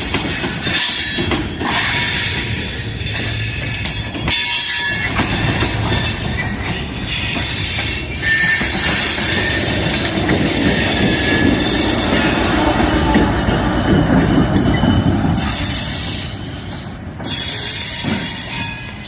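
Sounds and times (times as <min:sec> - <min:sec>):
rail joints clicking: 0:00.0 - 0:19.0
train wheels squealing on rails: 0:00.0 - 0:19.0.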